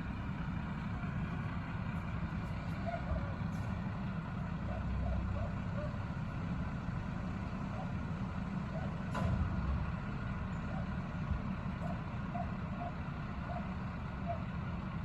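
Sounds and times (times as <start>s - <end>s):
garbage truck engine rumbling: 0.0s - 15.0s.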